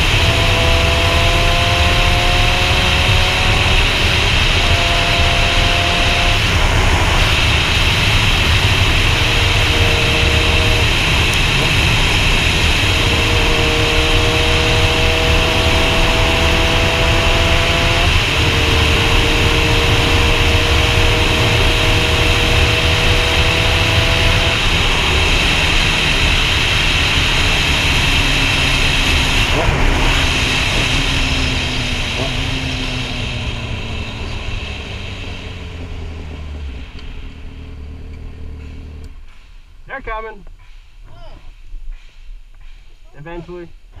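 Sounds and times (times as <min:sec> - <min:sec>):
motorcycle engine running: 0:00.0 - 0:39.4.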